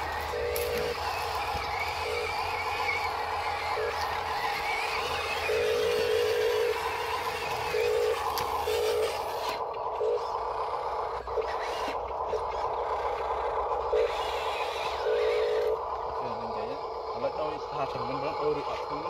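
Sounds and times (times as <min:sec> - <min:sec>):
steady mechanical hum: 0:00.0 - 0:19.0
toy truck motors whining: 0:00.0 - 0:19.0.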